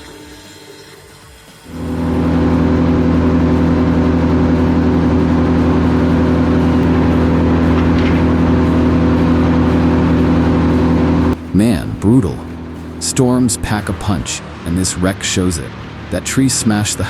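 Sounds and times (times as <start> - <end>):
engine humming steadily: 1.7 - 17.0.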